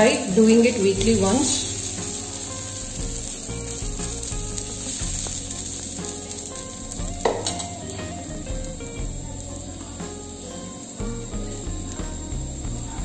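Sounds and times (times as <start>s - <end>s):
batter sizzling on hot iron: 0.0s - 13.0s.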